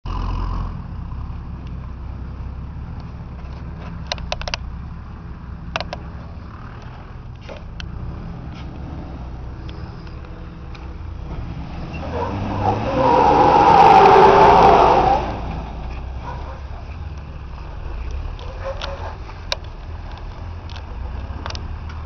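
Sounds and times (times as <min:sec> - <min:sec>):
engine running and revving: 0:00.0 - 0:22.0.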